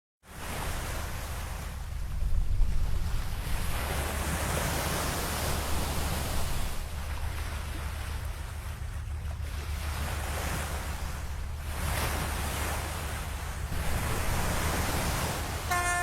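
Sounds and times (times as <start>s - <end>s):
waves rushing: 0.3s - 16.0s
wind buffeting microphone: 0.4s - 16.0s.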